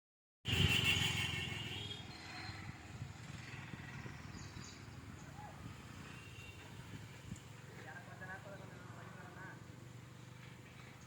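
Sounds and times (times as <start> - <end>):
outdoor background noise: 0.5 - 11.0.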